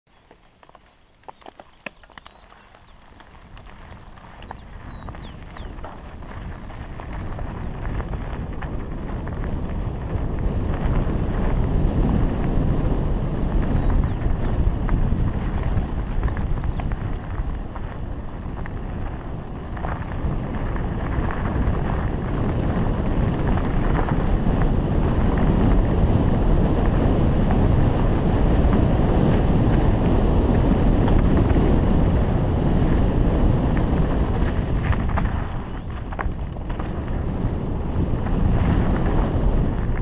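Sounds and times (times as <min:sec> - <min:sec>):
bike clicks and rattles: 0:00.1 - 0:40.0
bike tyres rumbling on dirt: 0:00.1 - 0:40.0
wind rushing over microphone: 0:02.0 - 0:40.0.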